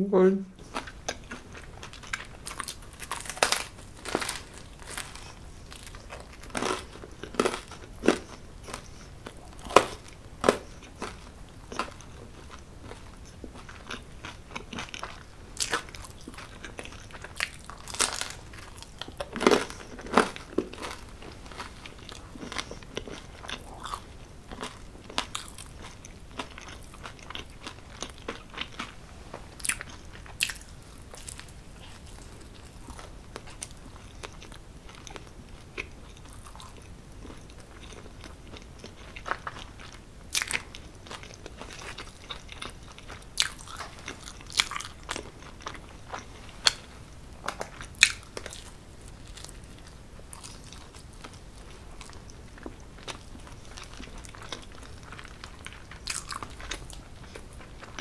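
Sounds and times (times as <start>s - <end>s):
person chewing pizza: 0.5s - 58.0s
crunchy clicks and crackles: 0.7s - 58.0s.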